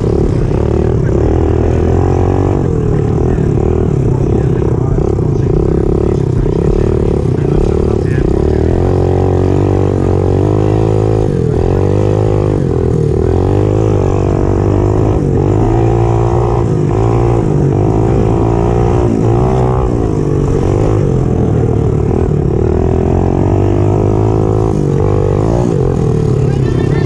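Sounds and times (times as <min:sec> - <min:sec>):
pit bike engine revving: 0:00.0 - 0:27.0.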